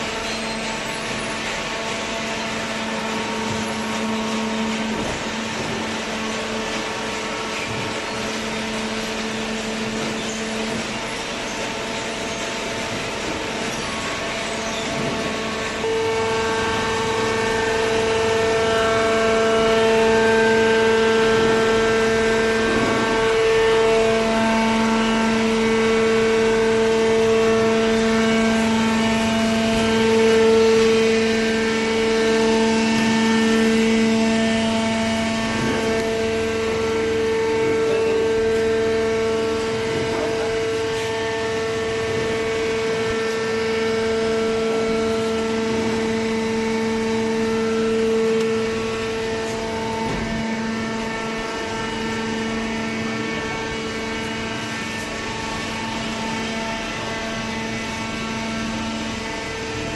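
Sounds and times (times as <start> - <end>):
electric motor and pump humming: 0.0 - 59.9.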